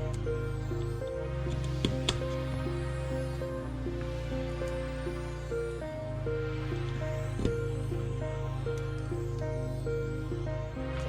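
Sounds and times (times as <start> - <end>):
low drone: 0.0 - 11.0
slow held notes melody: 0.0 - 11.0.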